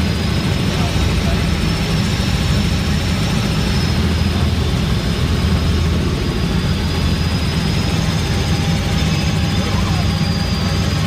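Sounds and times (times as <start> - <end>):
faint high whine: 0.0 - 11.0
helicopter rotor drone: 0.0 - 11.0.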